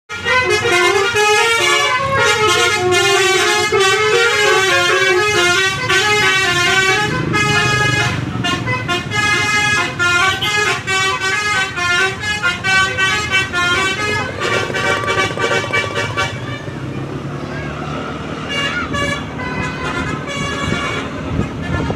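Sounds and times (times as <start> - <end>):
bus horn playing tune: 0.1 - 16.9, 18.3 - 21.9.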